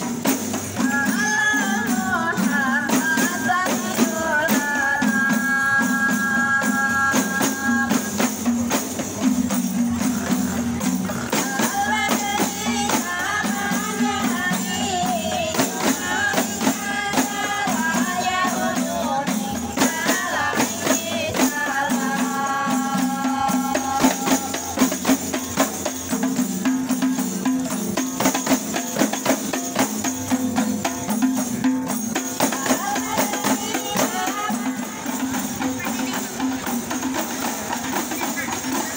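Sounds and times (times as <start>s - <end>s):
voices singing together: 0.0s - 27.3s, 31.9s - 38.9s
frame drums beating: 0.0s - 38.9s.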